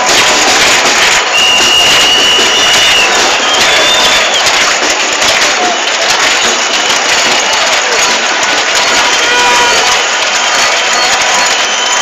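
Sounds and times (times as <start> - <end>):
crowd cheering: 0.0 - 12.0
crowd clapping: 0.0 - 12.0
crowd voices: 0.0 - 12.0.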